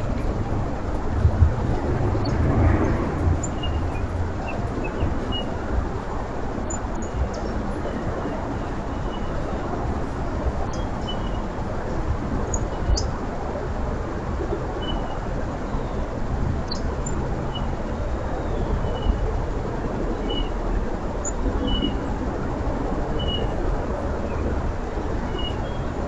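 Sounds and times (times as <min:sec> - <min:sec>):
outdoor rumbling hiss: 0:00.0 - 0:26.0.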